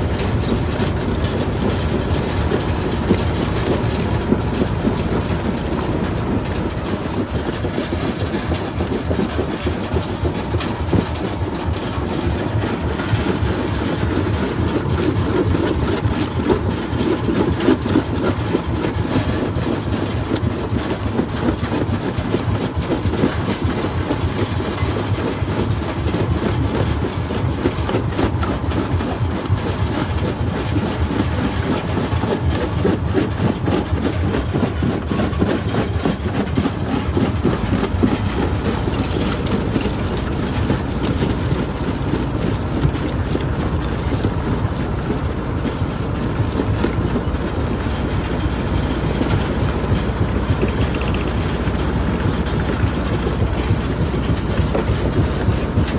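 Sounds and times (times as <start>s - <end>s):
jaw crusher rumbling: 0.0s - 55.9s.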